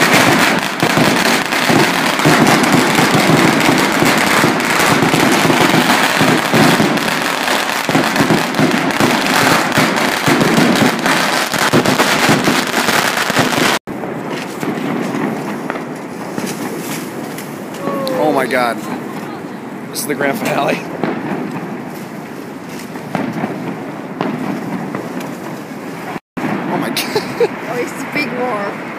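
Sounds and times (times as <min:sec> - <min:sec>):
firework crackling: 0:00.0 - 0:28.9
fireworks exploding: 0:00.0 - 0:28.9.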